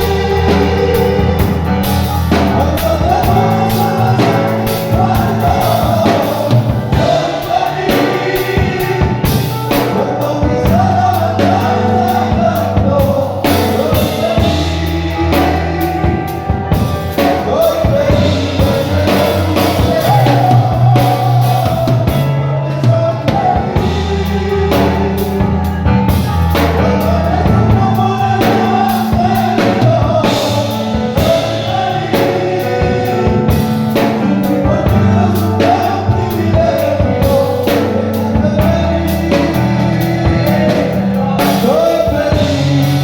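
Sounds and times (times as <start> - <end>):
bass: 0.0 - 43.0
drum kit: 0.0 - 43.0
voices singing worship song: 0.0 - 43.0.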